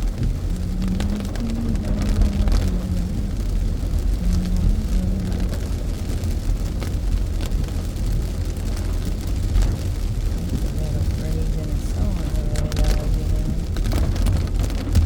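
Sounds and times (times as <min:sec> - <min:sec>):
engine and tyre rumble: 0:00.0 - 0:15.0
rain ticking on car: 0:00.0 - 0:15.0.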